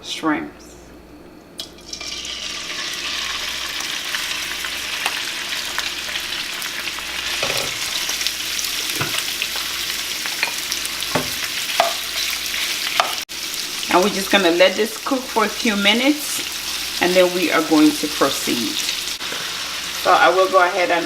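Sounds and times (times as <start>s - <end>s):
shrimp sizzling in oil: 1.7s - 21.0s.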